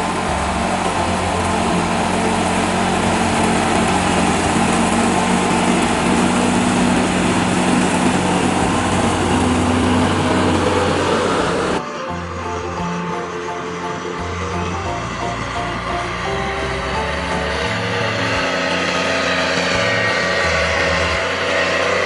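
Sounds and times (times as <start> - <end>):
motor droning steadily: 0.0 - 22.0.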